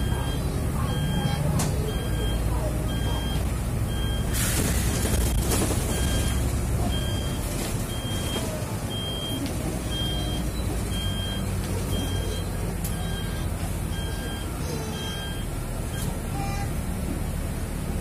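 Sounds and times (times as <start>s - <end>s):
high warning beeps: 0.0s - 4.4s, 5.9s - 16.1s
bus driving hum and road noise: 0.0s - 18.0s.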